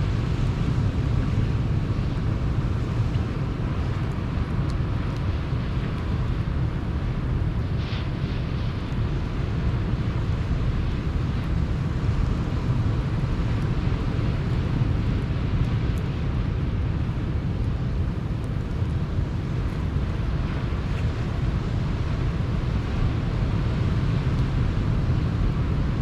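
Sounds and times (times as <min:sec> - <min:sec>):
campfire crackles: 0:00.0 - 0:26.0
sea surf rumble: 0:00.0 - 0:26.0.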